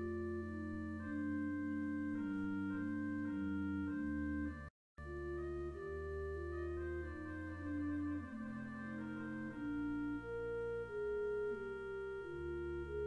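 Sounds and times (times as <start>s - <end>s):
organ playing chords: 0.0s - 13.0s.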